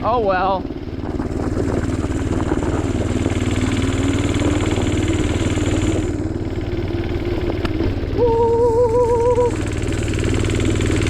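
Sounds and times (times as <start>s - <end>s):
small engine revving: 0.0s - 11.0s
tire spinning in snow: 0.0s - 11.0s.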